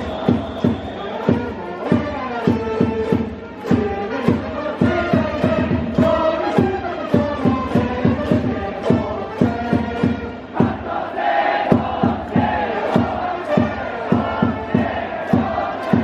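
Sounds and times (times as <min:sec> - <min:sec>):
crowd chanting in unison: 0:00.0 - 0:01.9, 0:04.3 - 0:16.0
driving drum beat: 0:00.0 - 0:16.0.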